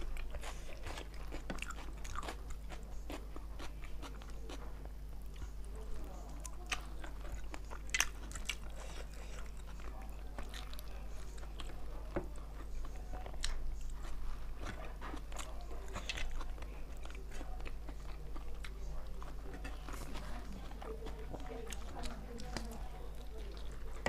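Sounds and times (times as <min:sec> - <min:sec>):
chewing and biting: 0:00.0 - 0:24.0
low steady hum: 0:00.0 - 0:24.0.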